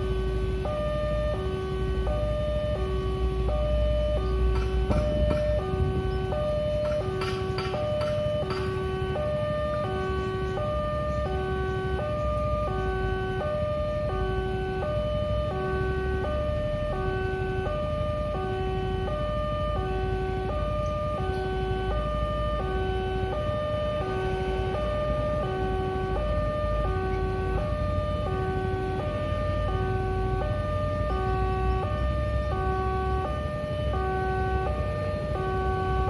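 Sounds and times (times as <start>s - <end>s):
two-tone crossing warning alarm: 0.0s - 36.0s.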